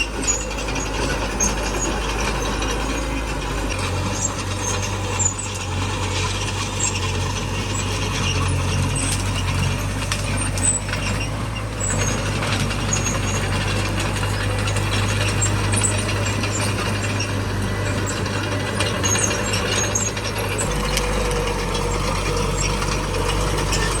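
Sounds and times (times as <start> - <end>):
bulldozer diesel engine running: 0.0 - 24.0
metallic track clatter: 0.0 - 24.0.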